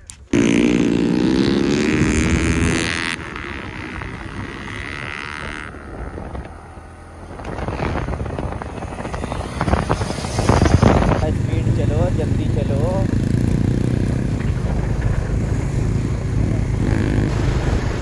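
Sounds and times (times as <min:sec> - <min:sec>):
motorcycle engine running: 0:00.0 - 0:18.0
wind rushing on microphone: 0:01.8 - 0:18.0.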